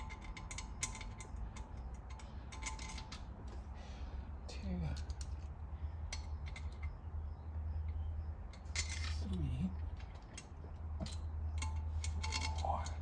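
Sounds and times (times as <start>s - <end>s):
metal bolts clicking and clinking: 0.0s - 3.6s, 4.9s - 7.0s, 7.8s - 13.0s
steady low hum: 0.0s - 13.0s.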